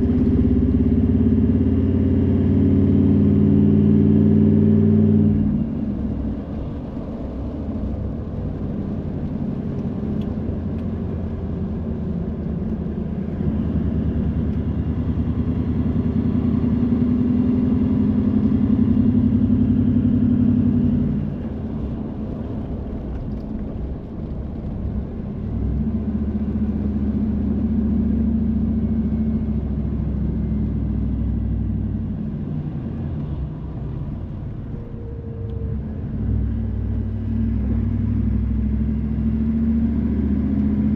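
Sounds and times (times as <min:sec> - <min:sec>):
car engine and tyres on wet road: 0:00.0 - 0:40.9.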